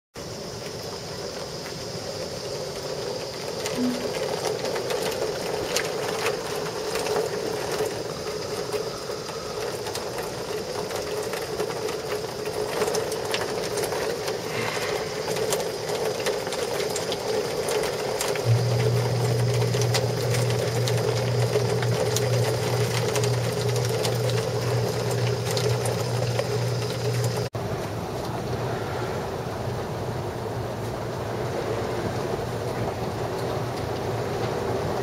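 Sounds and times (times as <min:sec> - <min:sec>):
raindrops ticking on hard surfaces: 0:00.2 - 0:28.6, 0:32.1 - 0:35.0
heavy rain pouring: 0:00.4 - 0:35.0.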